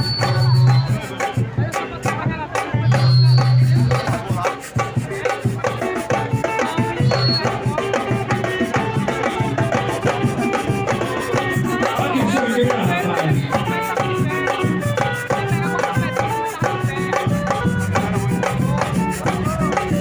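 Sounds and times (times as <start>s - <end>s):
live band playing: 0.0s - 20.0s
shaker rattling: 3.3s - 20.0s.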